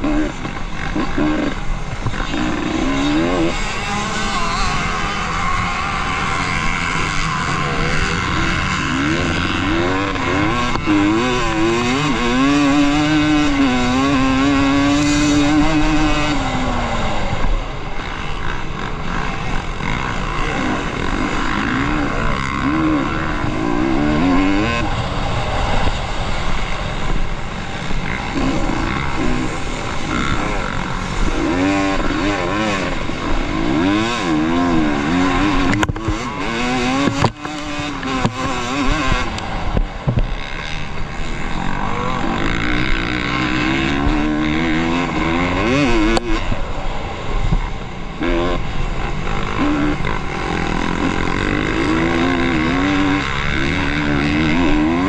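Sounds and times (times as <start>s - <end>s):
motorcycle engine racing: 0.0s - 55.0s.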